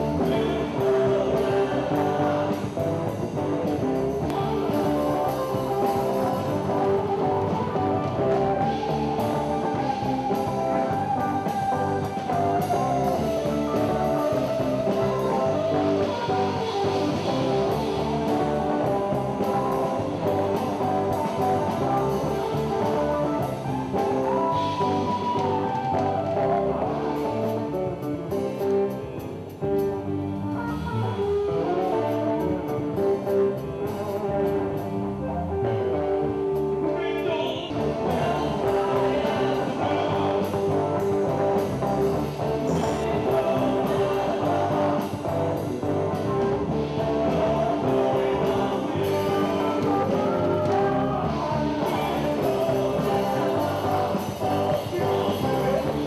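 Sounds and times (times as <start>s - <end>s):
electric guitar melody: 0.0s - 56.0s
live rock band playing: 0.0s - 56.0s.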